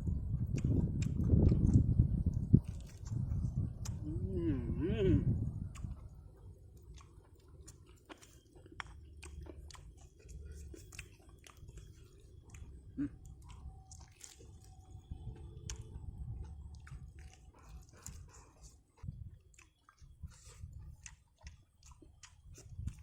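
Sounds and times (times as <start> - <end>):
person chewing crispy food: 0.1 - 4.0, 5.6 - 23.0.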